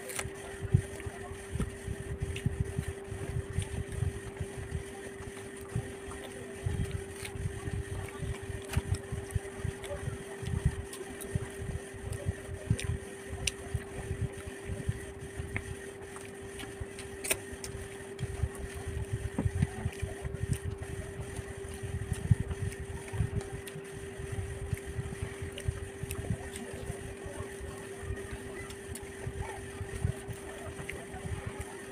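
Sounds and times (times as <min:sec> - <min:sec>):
steady hum: 0:00.0 - 0:31.9.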